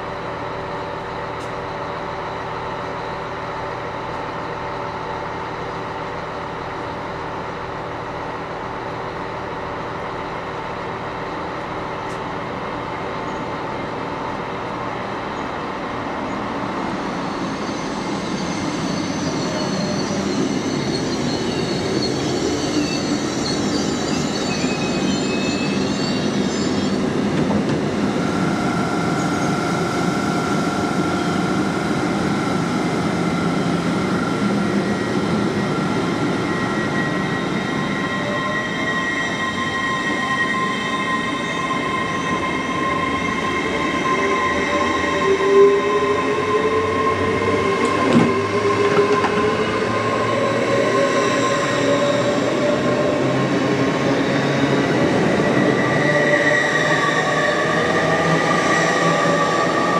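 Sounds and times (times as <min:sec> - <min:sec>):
train approaching: 0:00.0 - 0:59.9.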